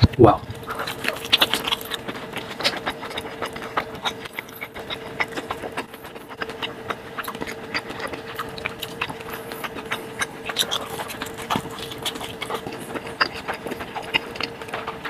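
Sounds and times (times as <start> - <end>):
crispy tacos crackling: 0.0 - 15.0
faint steady hum: 0.0 - 15.0
wet chewing and lip smacks: 0.0 - 15.0.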